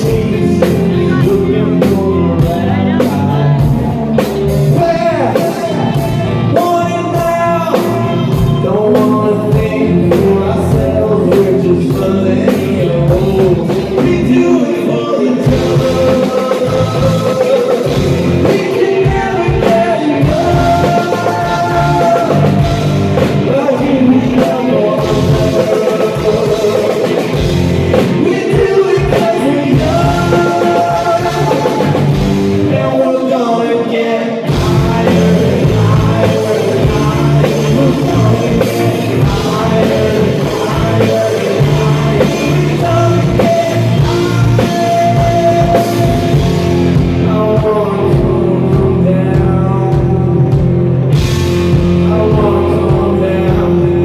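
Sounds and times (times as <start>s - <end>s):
lead singer singing: 0.0s - 54.0s
live rock band playing: 0.0s - 54.0s.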